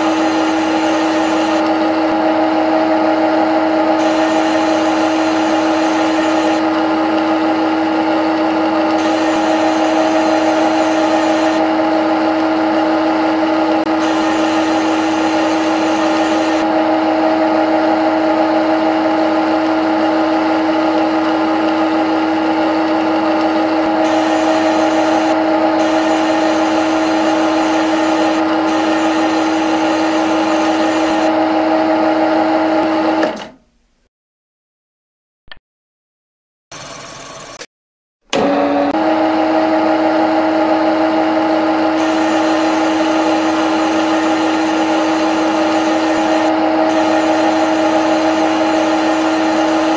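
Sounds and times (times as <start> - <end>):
lathe spindle hum: 0.0 - 33.0, 38.4 - 49.9.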